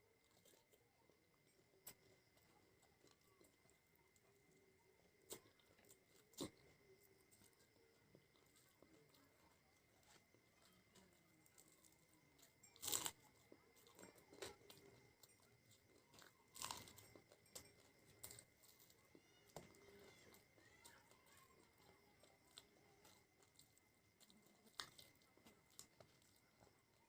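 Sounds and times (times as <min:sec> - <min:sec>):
person chewing crunchy food: 0:00.0 - 0:01.1, 0:01.8 - 0:27.0.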